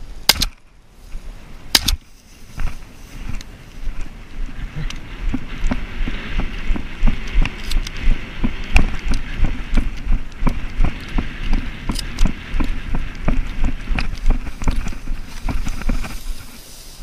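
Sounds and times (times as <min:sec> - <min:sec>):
dry grass rustling: 0:00.0 - 0:17.0
footsteps in dry grass: 0:00.8 - 0:17.0
wind on microphone: 0:01.0 - 0:17.0.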